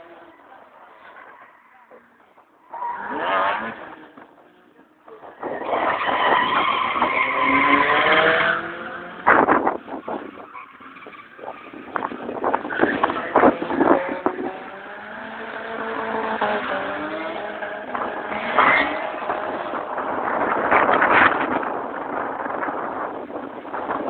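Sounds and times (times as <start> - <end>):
car engine revving: 2.2 - 22.2.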